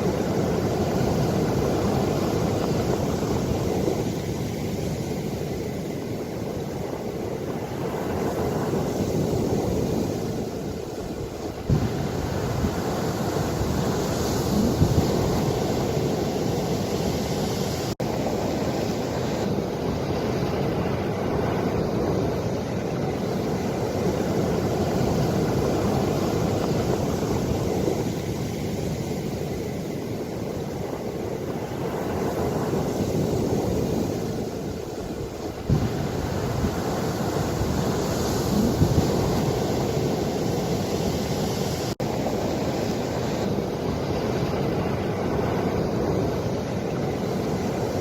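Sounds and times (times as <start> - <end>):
ocean waves washing in: 0.0 - 48.0
wind noise on microphone: 0.0 - 48.0.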